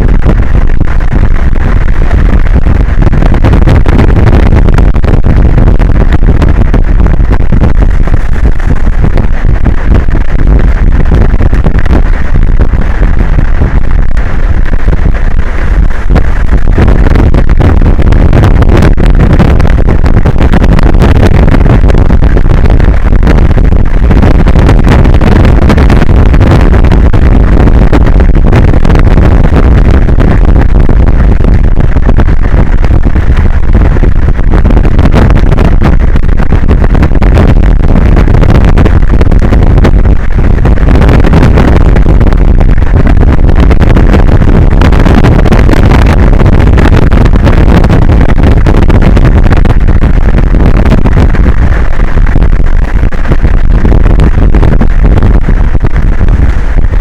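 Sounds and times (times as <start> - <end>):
strong wind buffeting microphone: 0.0 - 57.0.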